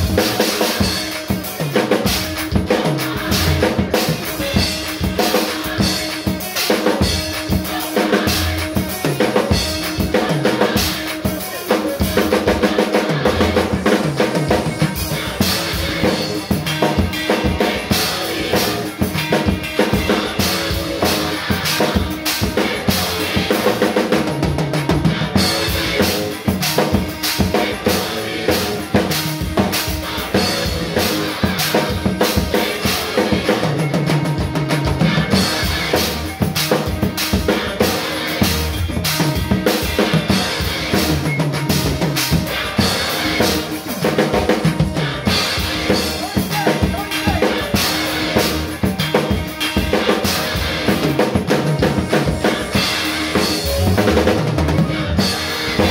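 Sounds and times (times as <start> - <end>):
drum kit playing groove: 0.0 - 55.9
recorded song playing: 0.0 - 55.9.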